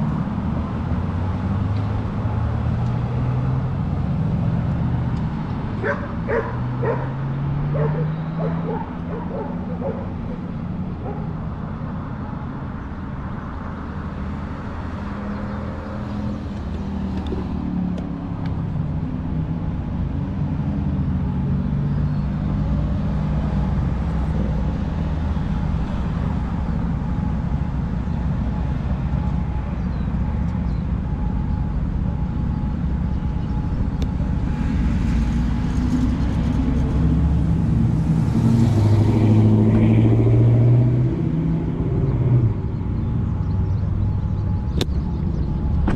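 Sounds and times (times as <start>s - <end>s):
bicycle riding rumble: 0.0s - 45.9s
car traffic passing: 0.0s - 45.9s
vehicle engine approaching: 0.0s - 45.9s.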